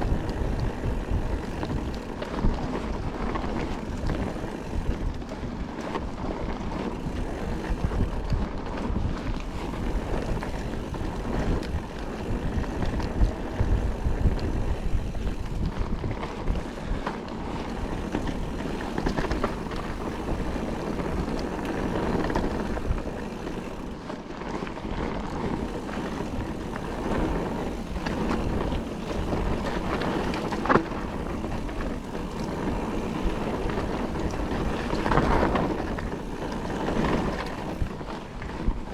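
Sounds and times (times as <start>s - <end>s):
bike rattling: 0.0s - 38.9s
tyres on dirt trail: 0.0s - 38.9s
wind buffeting microphone: 0.0s - 38.9s.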